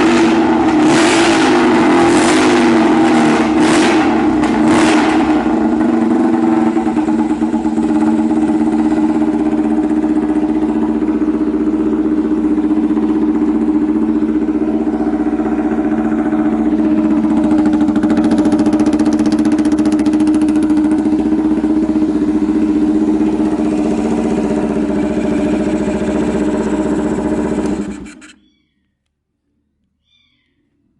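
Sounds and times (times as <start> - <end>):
motorcycle engine idling: 0.0 - 28.6.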